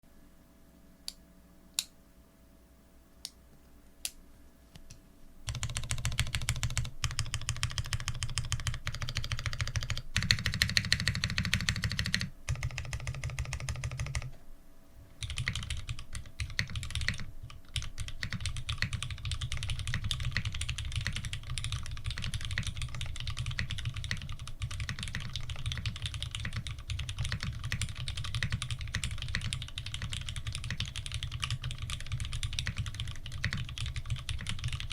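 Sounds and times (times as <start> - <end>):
mechanical keyboard typing: 5.5 - 14.3, 15.2 - 34.9.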